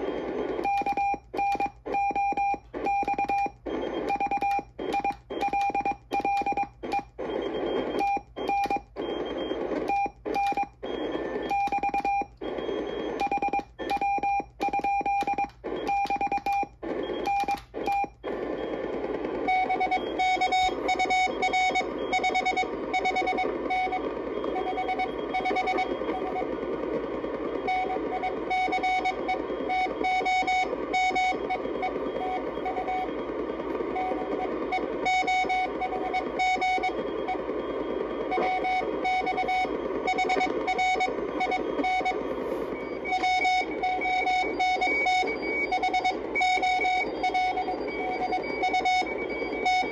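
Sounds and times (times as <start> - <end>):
morse code tone: 0.0 - 49.9
receiver hiss: 0.0 - 49.9.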